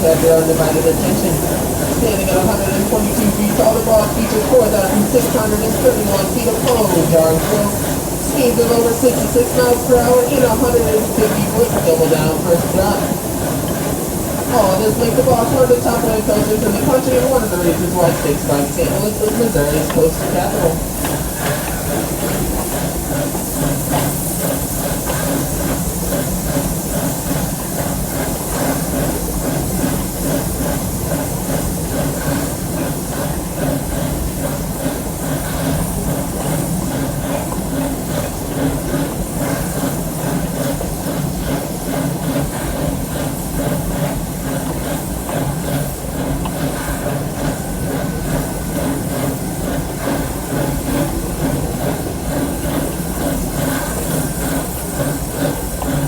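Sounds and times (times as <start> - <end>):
steam train hiss: 0.0 - 56.0
train clatter on track: 0.0 - 56.0.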